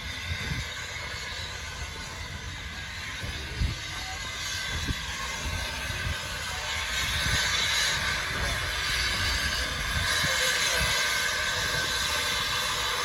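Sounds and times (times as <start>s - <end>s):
train hiss: 0.0s - 13.0s.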